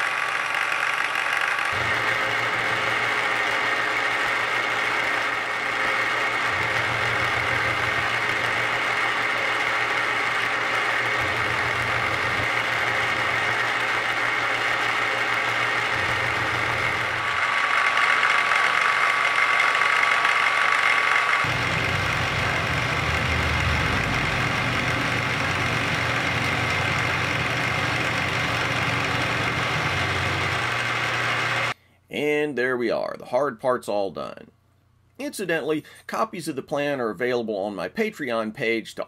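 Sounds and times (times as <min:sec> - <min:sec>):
milling machine cutting steel: 0:00.0 - 0:31.8.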